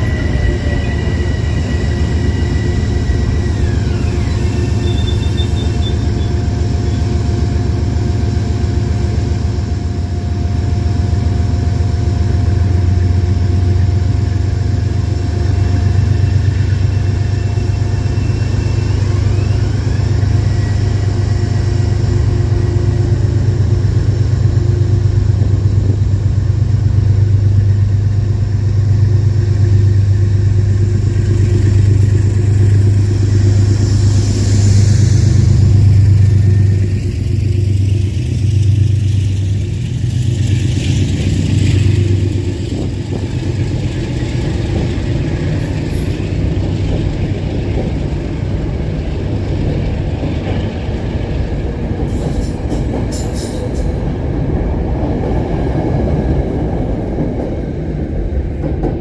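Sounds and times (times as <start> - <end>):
train engine droning: 0.0 - 59.0.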